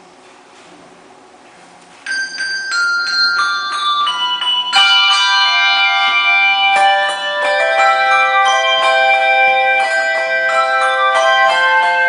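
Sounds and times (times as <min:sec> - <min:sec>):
handbells ringing: 0:02.0 - 0:12.0.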